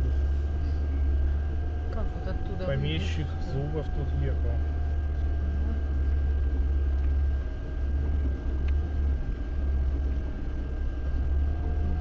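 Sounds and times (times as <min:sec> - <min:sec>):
engine and drivetrain rumble: 0:00.0 - 0:12.0
faint high whine: 0:00.0 - 0:12.0.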